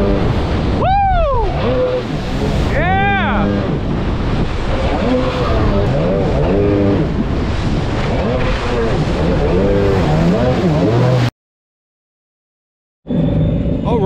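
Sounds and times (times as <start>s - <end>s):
jet ski engine revving: 0.0s - 11.3s
wind and spray rushing: 0.0s - 11.3s.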